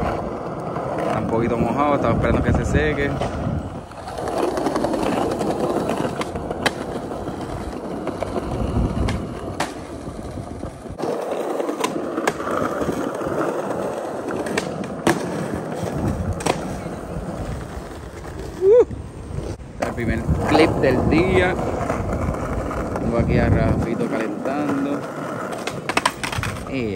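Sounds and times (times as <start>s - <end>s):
skateboard clacks: 0.0s - 18.7s, 19.7s - 26.9s
skateboard wheels rolling on paving: 0.0s - 26.9s.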